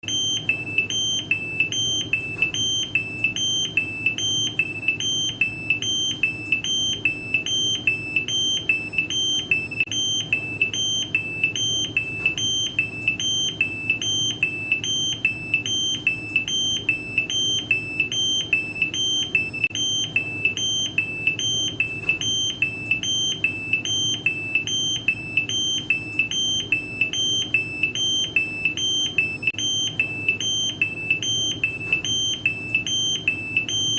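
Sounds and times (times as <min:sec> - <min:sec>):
two-tone error alarm beeping: 0:00.0 - 0:33.9.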